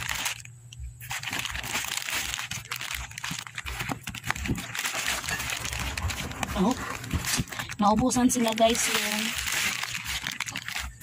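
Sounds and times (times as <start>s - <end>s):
plastic snack packets crinkling: 0.0s - 11.0s.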